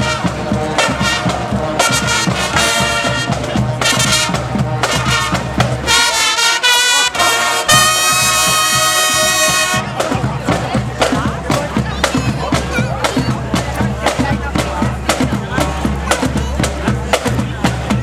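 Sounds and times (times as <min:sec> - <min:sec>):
brass band playing march: 0:00.0 - 0:18.0.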